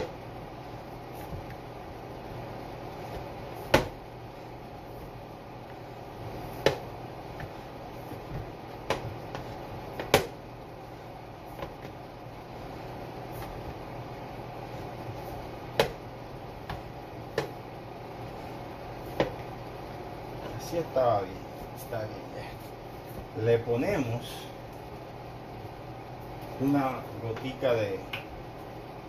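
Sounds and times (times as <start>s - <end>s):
hands kneading dough: 0.0s - 29.0s
steady low hum: 0.0s - 29.0s.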